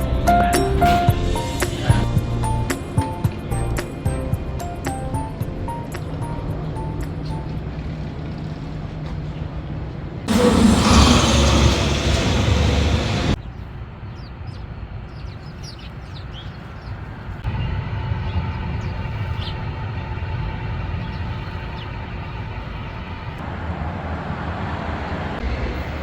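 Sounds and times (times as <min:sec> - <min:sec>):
loud vehicle noise: 0:00.0 - 0:13.4, 0:17.4 - 0:26.0
traffic rumble: 0:00.0 - 0:26.0.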